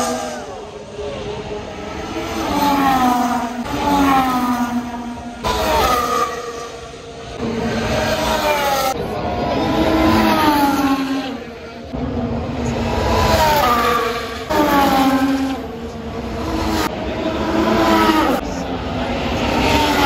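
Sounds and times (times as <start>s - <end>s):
racing cars passing at speed: 0.0s - 20.0s.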